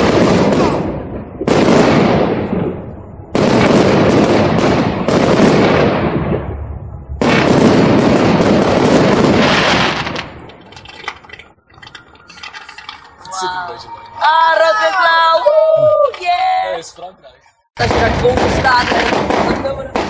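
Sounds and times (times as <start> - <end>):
fireworks bangs: 0.0 - 14.3, 17.8 - 20.0
fireworks crackling: 0.0 - 14.3, 17.8 - 20.0.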